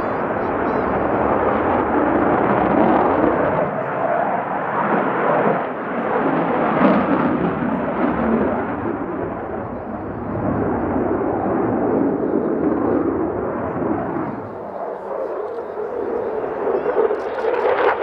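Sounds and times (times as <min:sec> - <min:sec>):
fighter jet roaring overhead: 0:00.0 - 0:18.0.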